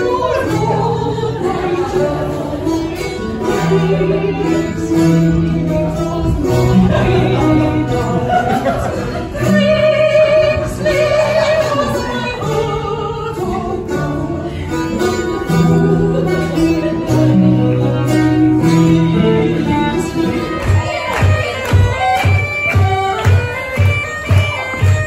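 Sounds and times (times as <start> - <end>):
voices singing: 0.0 - 23.7
bass line: 0.0 - 25.0
strummed guitar: 0.0 - 25.0.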